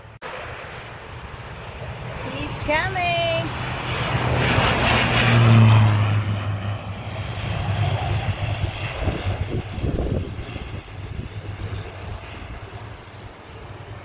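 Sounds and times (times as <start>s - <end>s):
propeller plane engine: 0.0s - 14.0s.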